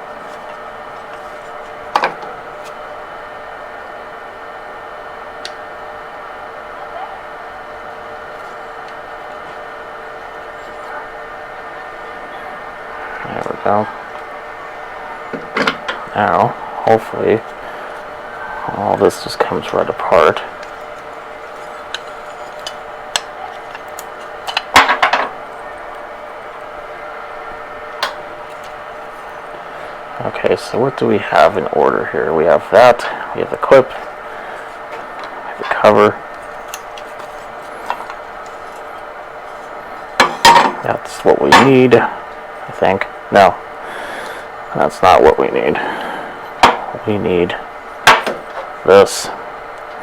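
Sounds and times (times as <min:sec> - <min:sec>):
workshop hum: 0:00.0 - 0:50.0.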